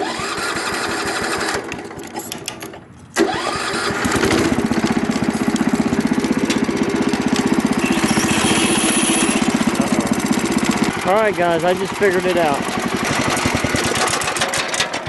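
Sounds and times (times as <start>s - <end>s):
garden tractor engine starting: 0.0s - 15.0s.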